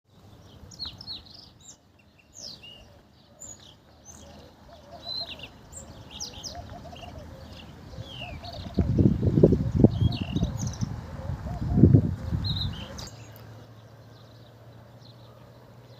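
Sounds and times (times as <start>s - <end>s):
goldfinch twittering song: 0.1s - 15.9s.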